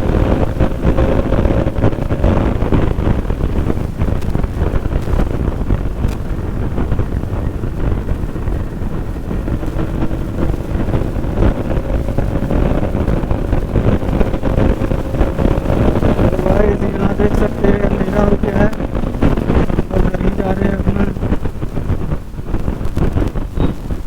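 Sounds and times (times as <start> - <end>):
motorcycle engine tone: 0.0 - 24.0
wind buffeting microphone: 0.0 - 24.0.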